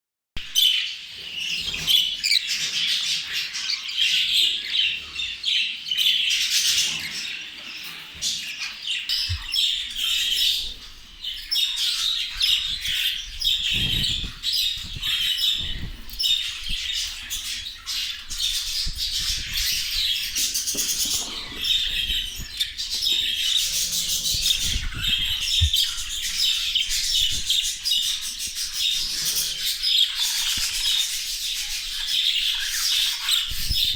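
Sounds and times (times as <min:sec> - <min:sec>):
budgerigars chattering and squawking: 0:00.6 - 0:33.9.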